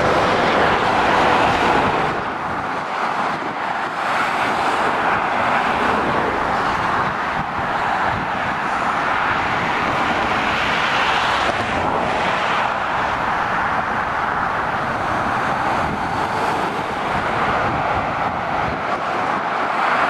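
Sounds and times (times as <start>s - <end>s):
motorway traffic noise: 0.0s - 20.0s.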